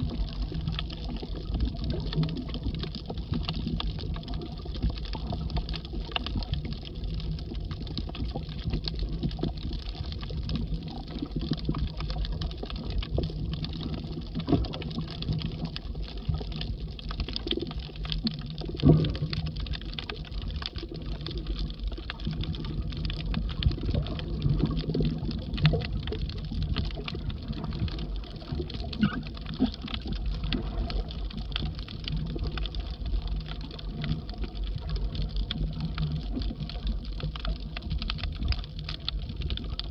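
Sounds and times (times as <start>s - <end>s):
crackle of tiny underwater clicks: 0.0s - 39.9s
low rumble of moving water: 0.0s - 39.9s.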